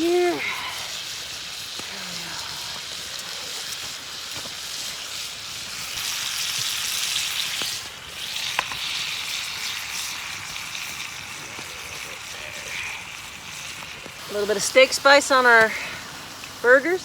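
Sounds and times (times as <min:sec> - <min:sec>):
patties sizzling in frying pan: 0:00.0 - 0:17.0.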